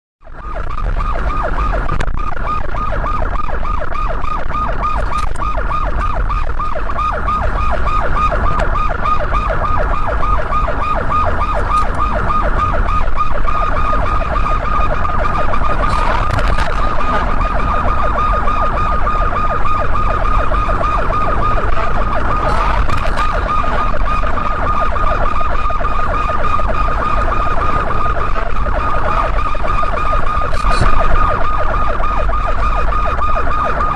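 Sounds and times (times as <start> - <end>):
engine and road rumble: 0.2 - 33.9
police siren warbling: 0.2 - 33.9.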